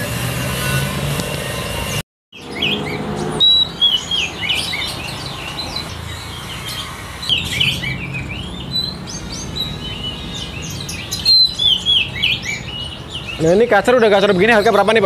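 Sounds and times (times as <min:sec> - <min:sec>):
bird whistling and chirping: 0:02.4 - 0:15.0.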